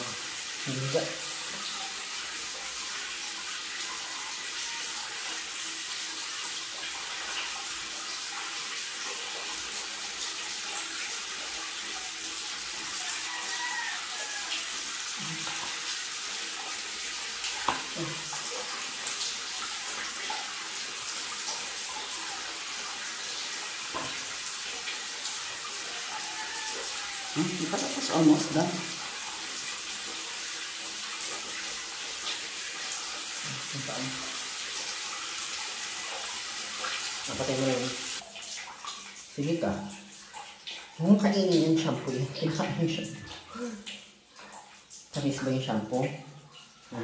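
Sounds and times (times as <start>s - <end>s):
water running: 0.0s - 47.0s.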